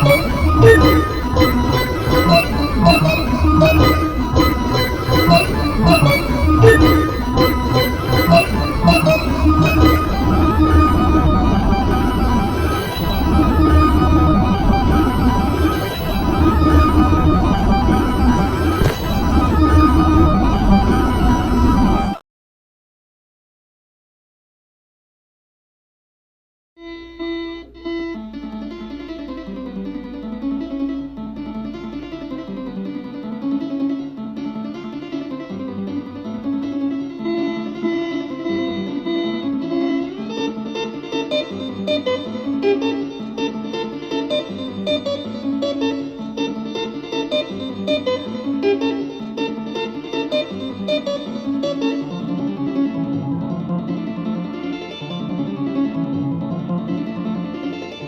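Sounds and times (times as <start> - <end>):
plucked guitar music: 0.0 - 22.1, 27.2 - 58.0.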